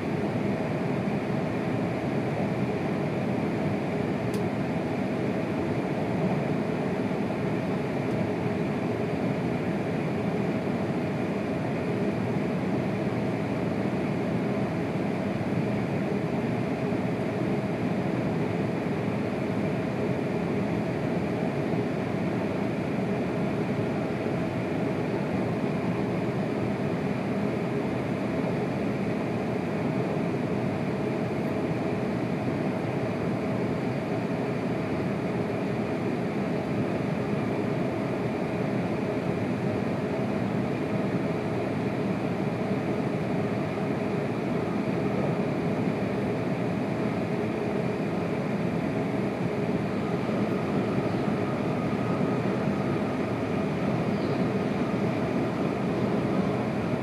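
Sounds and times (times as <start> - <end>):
faint constant hum: 0.0 - 57.0.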